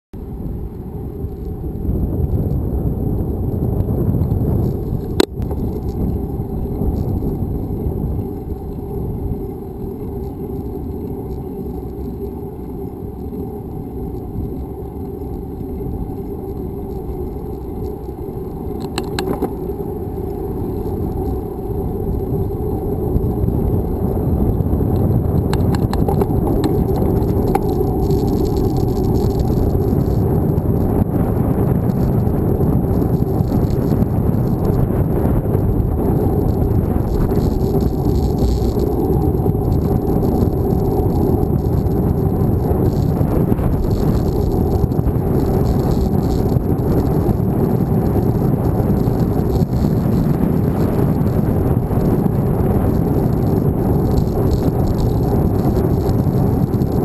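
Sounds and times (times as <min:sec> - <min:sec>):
wind and road rumble: 0:00.2 - 0:57.0.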